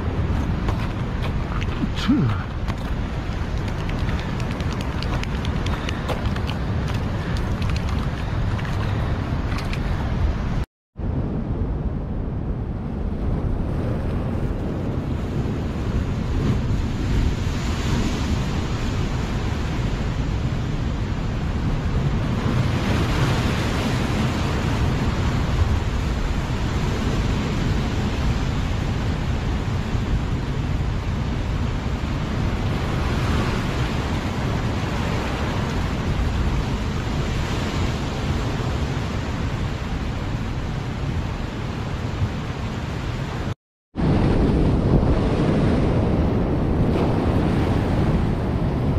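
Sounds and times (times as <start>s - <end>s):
ocean surf washing over rocks: 0.0s - 10.6s, 13.6s - 48.9s
wind rumble on microphone: 0.0s - 48.9s.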